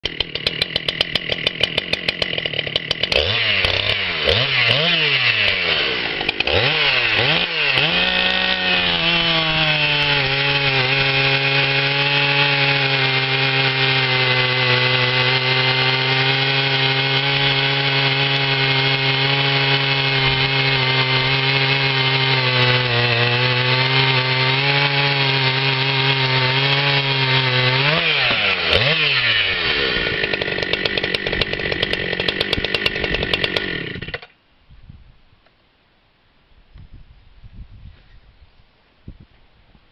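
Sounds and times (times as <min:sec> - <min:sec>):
chainsaw cutting log: 0:00.0 - 0:34.4.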